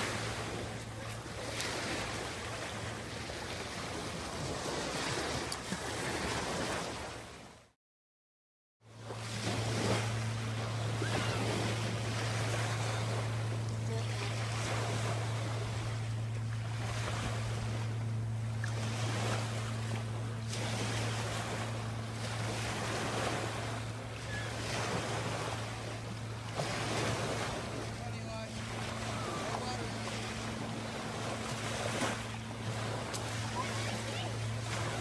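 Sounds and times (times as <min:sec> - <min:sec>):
steady low hum: 0:00.0 - 0:04.9, 0:08.8 - 0:35.0.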